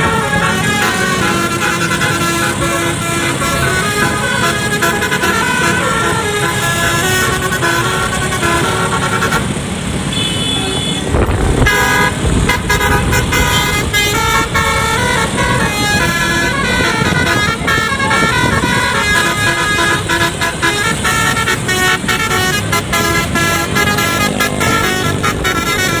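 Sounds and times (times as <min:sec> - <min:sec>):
musical air horn playing a tune: 0:00.0 - 0:09.5, 0:10.1 - 0:26.0
vehicle engine rumble: 0:00.0 - 0:26.0.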